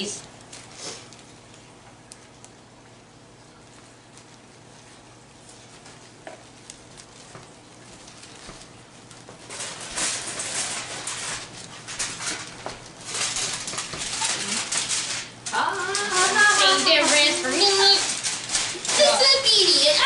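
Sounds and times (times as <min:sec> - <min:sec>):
plastic bag crinkling: 0:03.6 - 0:20.0.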